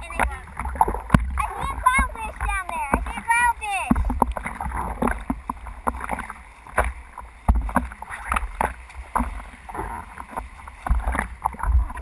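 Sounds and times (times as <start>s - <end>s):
water splashing against surfboard: 0.0s - 12.0s.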